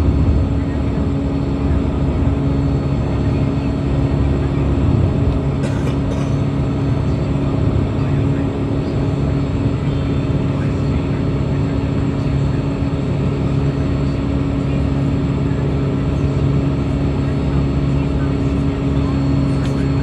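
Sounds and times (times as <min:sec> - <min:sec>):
jetfoil turbine drone: 0:00.0 - 0:20.0.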